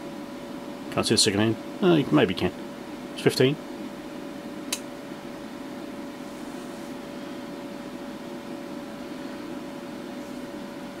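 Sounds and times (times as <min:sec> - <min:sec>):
cooling fan whirring: 0:00.0 - 0:11.0.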